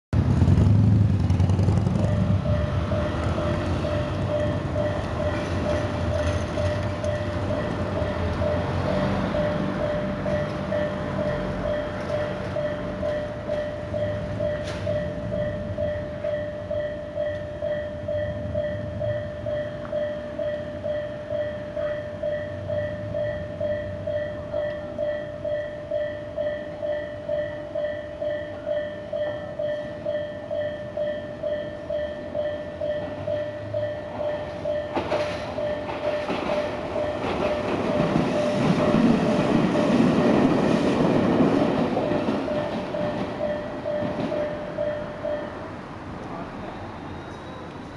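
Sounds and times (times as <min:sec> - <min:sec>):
train wheels on rails: 0:00.2 - 0:47.9
level crossing bell ringing: 0:02.0 - 0:40.4, 0:42.2 - 0:45.7.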